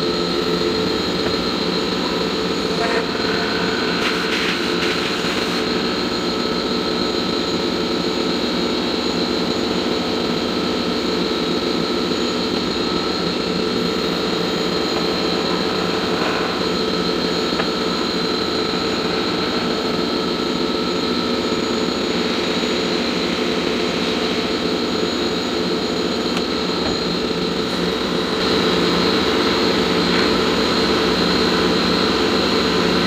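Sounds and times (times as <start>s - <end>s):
milling machine hum and whine: 0.0s - 33.0s.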